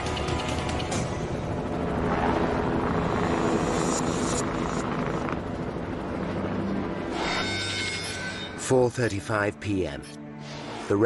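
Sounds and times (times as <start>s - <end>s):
helicopter hovering: 0.0s - 11.0s.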